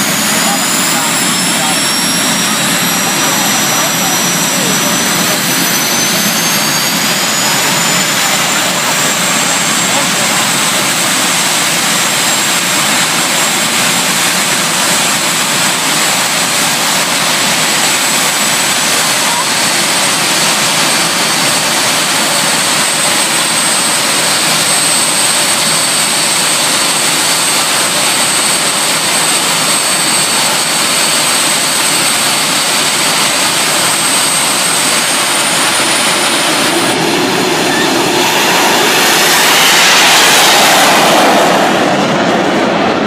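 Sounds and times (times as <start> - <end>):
high jet whine: 0.0 - 43.0
jet engine roaring: 0.0 - 43.0.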